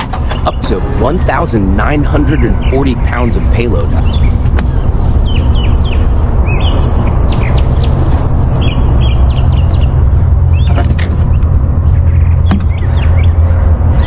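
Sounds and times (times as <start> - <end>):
birds chirping: 0.0 - 14.0
loud low rumble: 0.0 - 14.0.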